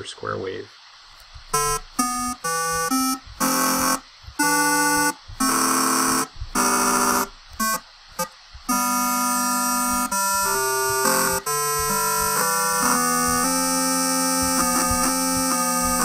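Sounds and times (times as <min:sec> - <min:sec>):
synthesized square-wave notes: 0:01.4 - 0:16.0.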